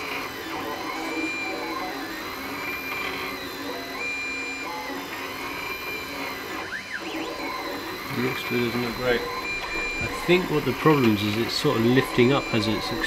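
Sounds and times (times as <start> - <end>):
steady whir: 0.0 - 13.0
stepper motors whining: 0.0 - 13.0.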